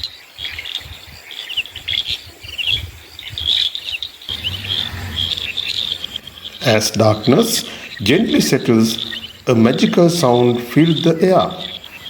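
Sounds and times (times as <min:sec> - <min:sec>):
insects calling: 0:00.0 - 0:12.0
birds chirping: 0:01.8 - 0:12.0.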